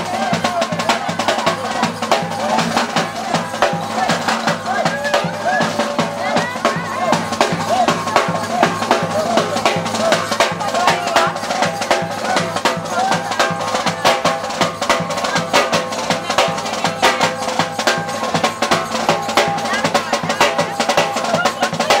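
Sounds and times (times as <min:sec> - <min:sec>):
high held melody: 0:00.0 - 0:22.0
snare drum beating: 0:00.0 - 0:22.0.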